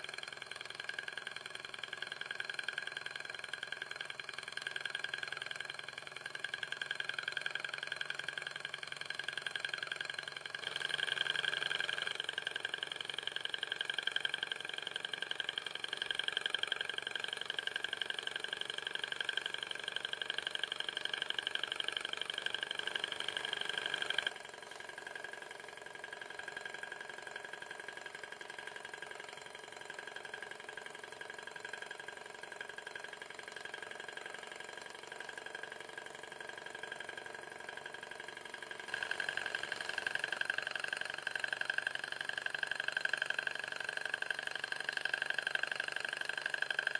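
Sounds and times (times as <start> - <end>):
engine mechanical whirr: 0.0 - 46.9.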